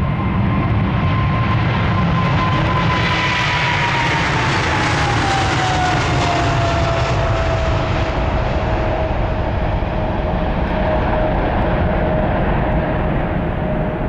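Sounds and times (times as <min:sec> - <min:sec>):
jet engines passing by: 0:00.0 - 0:14.0.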